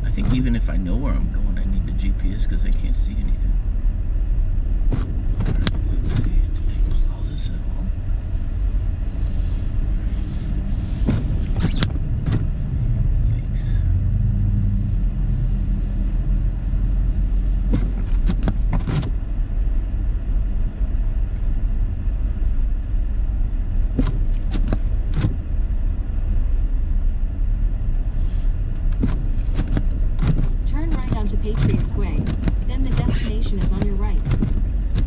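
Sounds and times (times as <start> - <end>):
engine and tyres rumbling in snow: 0.0 - 35.0.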